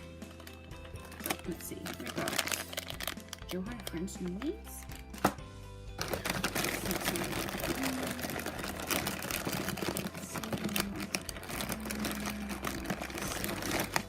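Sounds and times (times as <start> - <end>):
hands rummaging plastic packages: 0.0 - 5.4, 6.0 - 14.0.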